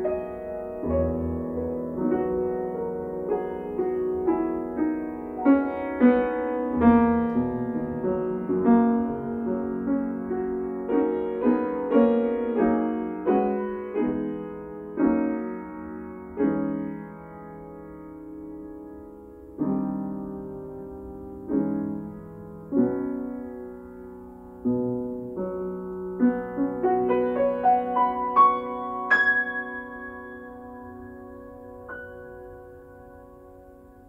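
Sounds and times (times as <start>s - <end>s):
solo grand piano: 0.0s - 34.0s.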